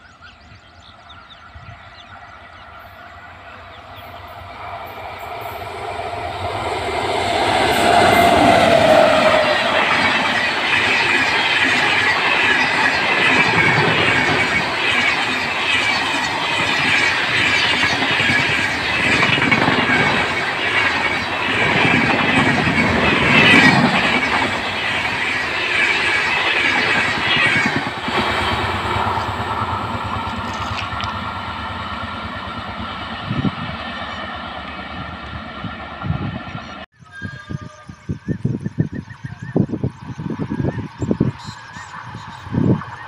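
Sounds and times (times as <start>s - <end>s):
train wheels rattling over track: 0.8s - 36.8s.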